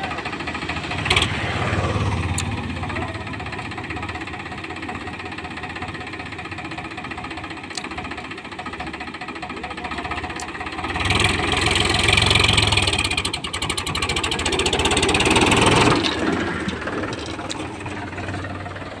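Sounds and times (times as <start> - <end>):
diesel engine knocking and revving: 0.0 - 19.0.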